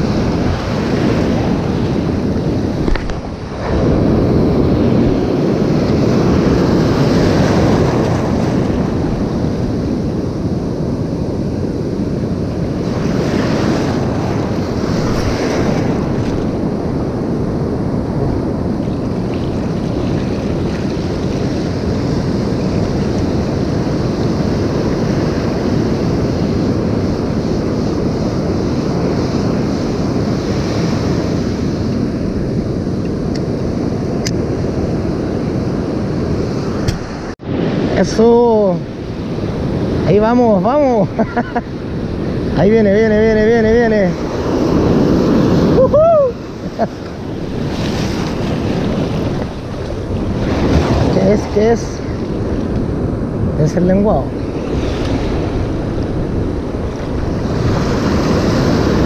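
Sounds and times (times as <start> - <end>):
surf breaking on beach: 0.0 - 32.6, 33.8 - 59.0
wind buffeting microphone: 0.0 - 59.0.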